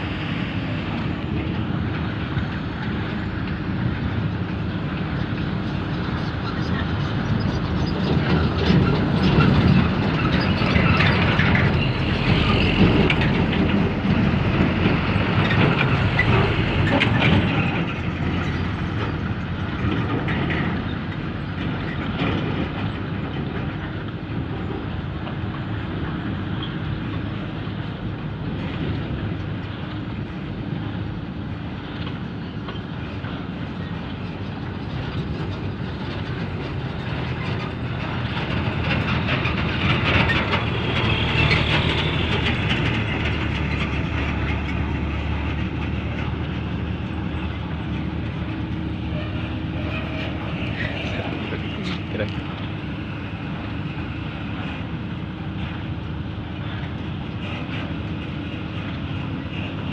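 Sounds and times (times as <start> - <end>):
diesel engine running: 0.0 - 59.9
crawler tracks clanking: 0.1 - 27.9, 28.5 - 59.9.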